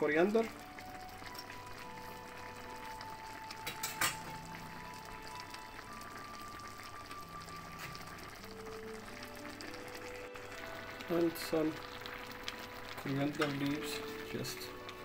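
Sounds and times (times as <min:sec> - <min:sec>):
pot of soup bubbling: 0:00.0 - 0:15.0
slow background music: 0:00.0 - 0:15.0.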